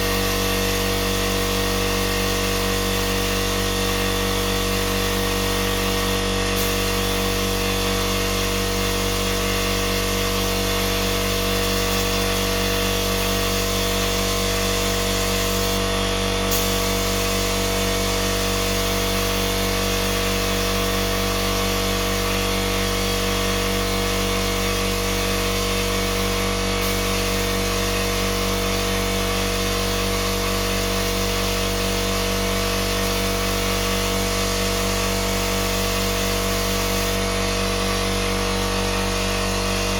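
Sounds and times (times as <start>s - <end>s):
power tool motor humming: 3.8s - 39.9s.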